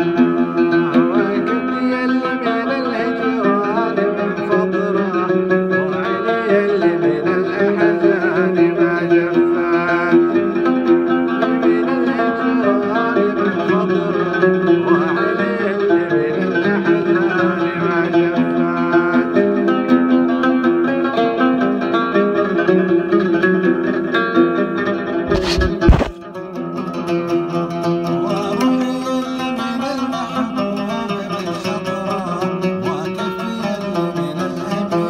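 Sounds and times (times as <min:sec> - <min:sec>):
plucked string instrumental music: 0:00.0 - 0:35.0.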